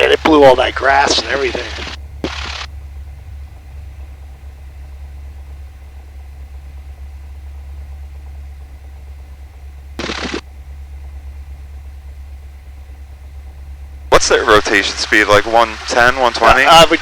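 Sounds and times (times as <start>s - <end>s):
aircraft piston engine idling: 0.0s - 17.0s.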